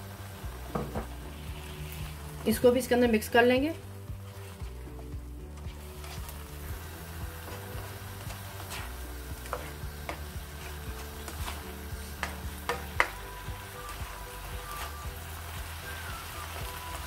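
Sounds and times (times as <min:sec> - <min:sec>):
food sizzling in a wok: 0:00.0 - 0:17.0.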